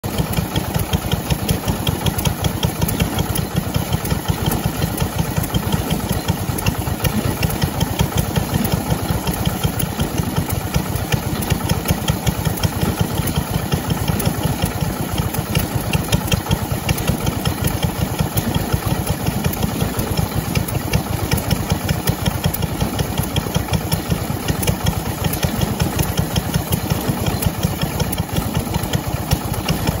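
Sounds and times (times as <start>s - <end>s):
stationary engine running: 0.0s - 30.0s.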